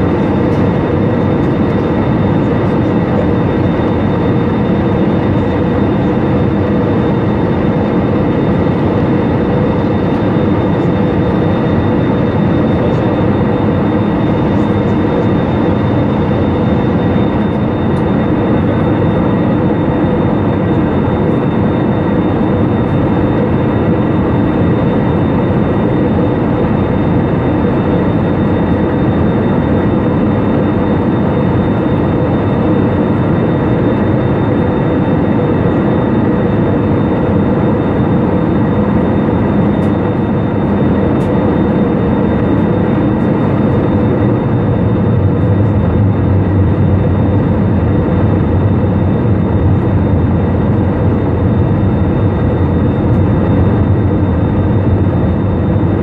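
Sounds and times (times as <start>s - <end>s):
jet engines and rushing air: 0.0s - 56.0s
low hum: 0.0s - 56.0s.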